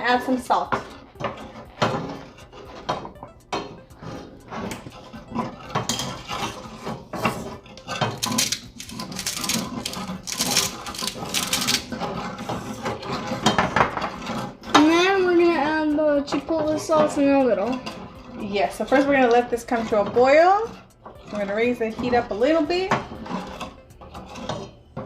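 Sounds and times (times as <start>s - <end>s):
utensil clicks and scrapes on pan: 0.0s - 25.0s.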